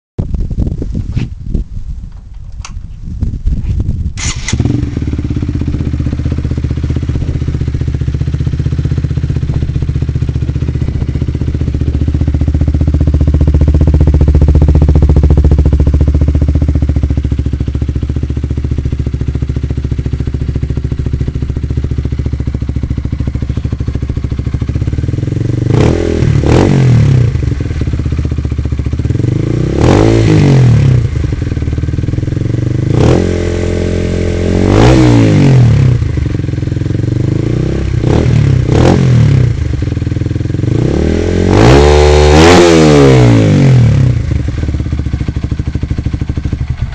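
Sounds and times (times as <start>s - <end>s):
motorcycle engine idling and revving: 0.2s - 46.9s.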